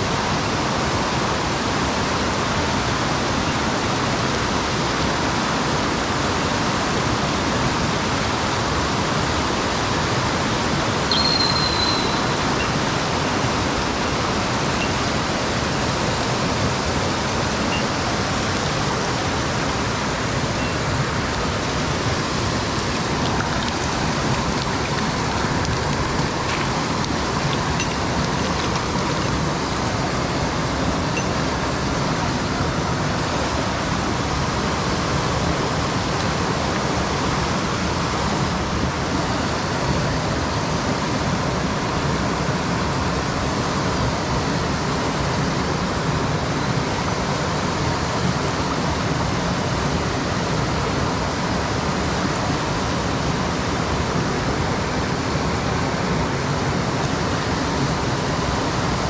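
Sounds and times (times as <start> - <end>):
mountain stream water running: 0.0 - 59.0.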